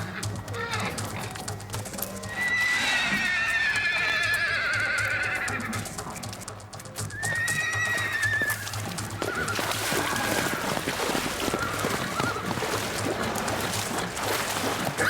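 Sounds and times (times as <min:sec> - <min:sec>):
horse whinnying: 0:00.0 - 0:01.5, 0:02.2 - 0:06.4, 0:07.0 - 0:15.0
background music: 0:00.0 - 0:15.0.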